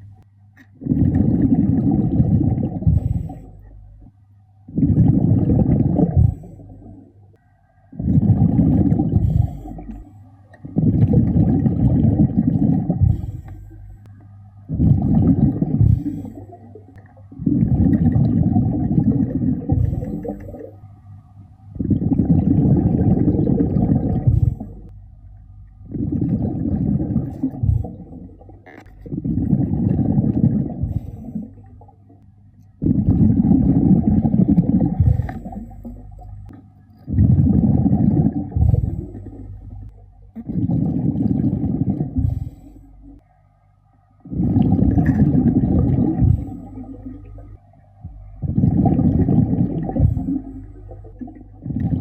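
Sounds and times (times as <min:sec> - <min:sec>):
underwater air bubbling: 0:00.0 - 0:52.0.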